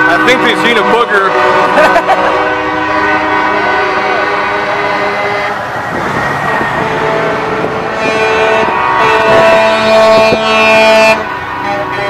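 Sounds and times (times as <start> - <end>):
truck air horns blowing: 0.0 - 12.0
trucks running: 0.0 - 12.0.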